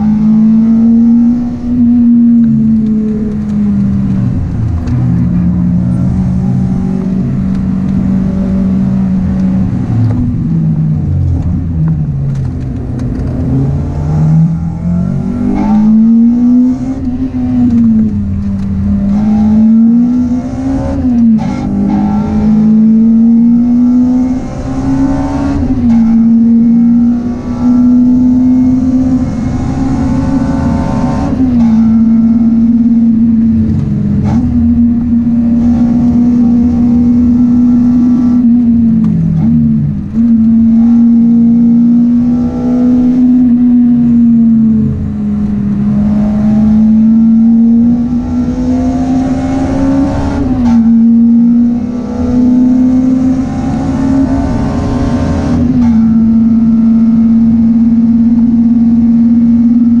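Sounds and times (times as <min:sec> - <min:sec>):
car engine at high revs: 0:00.0 - 1:00.0.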